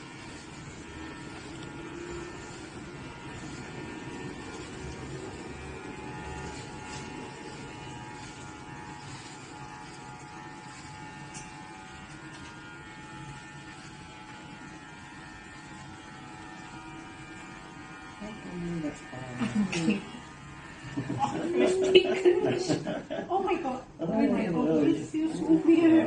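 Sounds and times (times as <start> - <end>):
electric hair clippers buzzing: 0.0 - 23.4.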